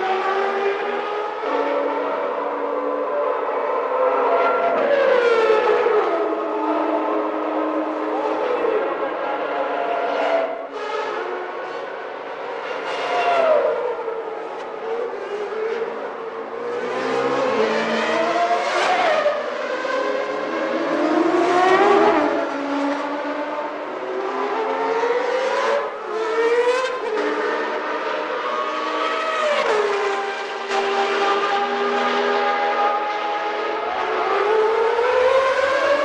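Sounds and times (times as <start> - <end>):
racing engines at high revs: 0.0 - 36.0.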